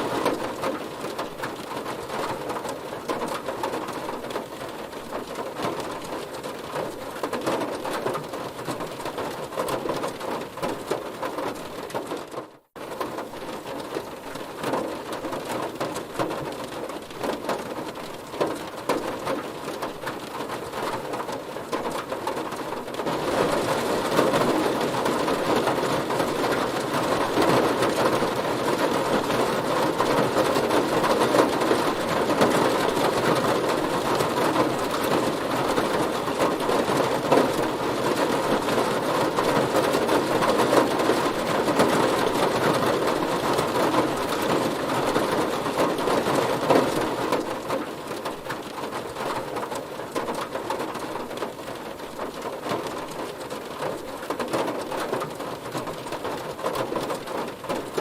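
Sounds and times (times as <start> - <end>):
heavy rain drumming on car: 0.0 - 58.0.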